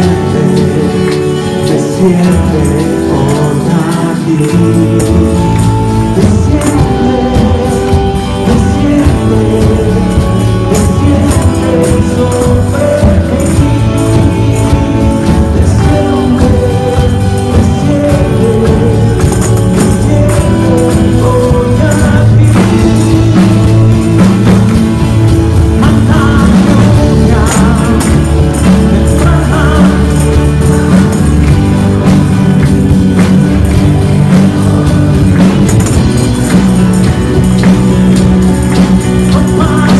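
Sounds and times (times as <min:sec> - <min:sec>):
live band playing worship song: 0:00.0 - 0:39.9
tambourines jingling: 0:00.0 - 0:39.9.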